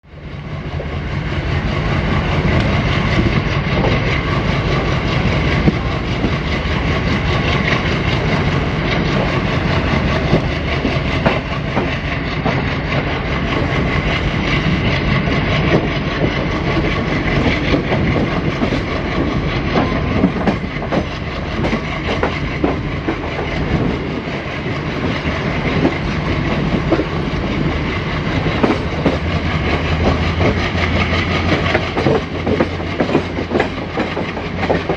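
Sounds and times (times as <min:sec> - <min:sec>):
diesel locomotives chugging: 0:00.0 - 0:34.9.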